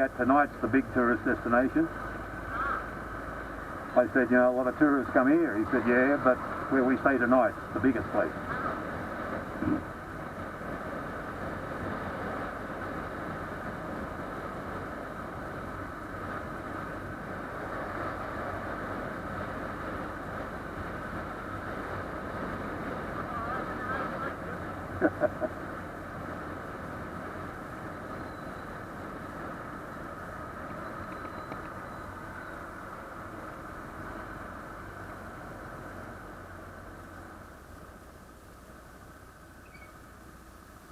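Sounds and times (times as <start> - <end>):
motorcycle engine and road noise: 0.0 - 40.9.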